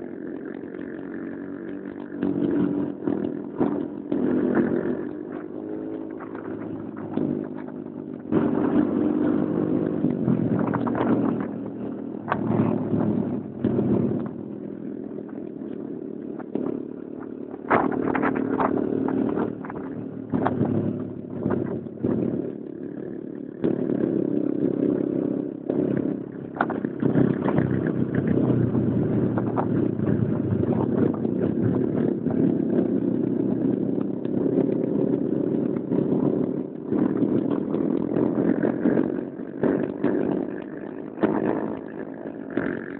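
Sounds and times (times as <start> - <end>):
small motorcycle engine running: 0.0 - 42.9.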